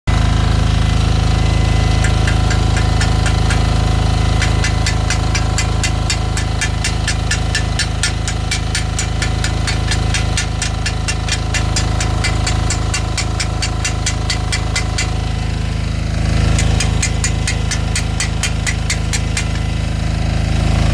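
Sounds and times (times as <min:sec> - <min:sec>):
diesel generator engine running: 0:00.1 - 0:20.9.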